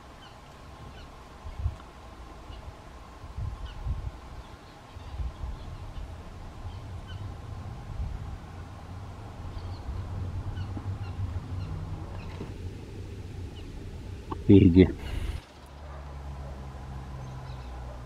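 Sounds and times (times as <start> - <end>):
faint steady hum: 0.0 - 17.7
wind rumble: 0.0 - 17.9.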